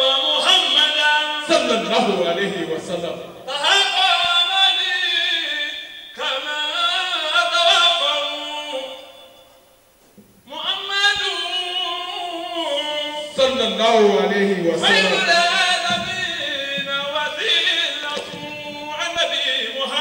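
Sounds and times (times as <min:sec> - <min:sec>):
man chanting into a microphone: 0:00.0 - 0:09.4, 0:10.4 - 0:20.0.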